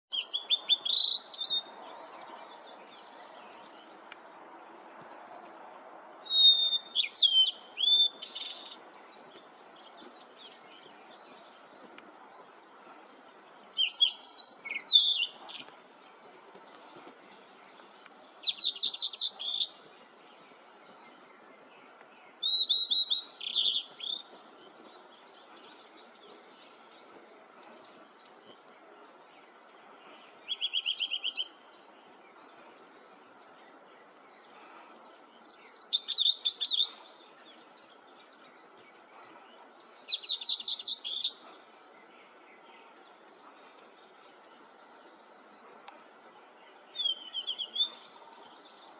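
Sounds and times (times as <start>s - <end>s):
bird singing: 0.1s - 48.9s.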